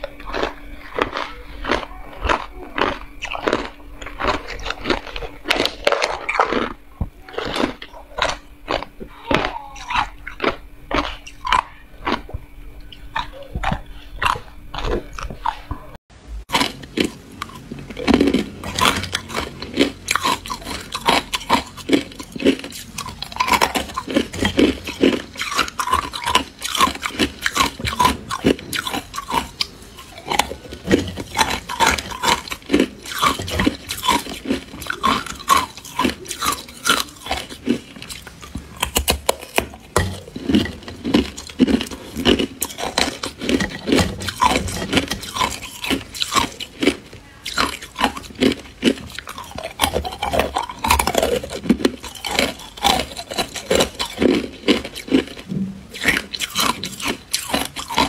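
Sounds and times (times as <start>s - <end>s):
ice crunching between teeth: 0.0s - 15.9s, 16.5s - 58.0s.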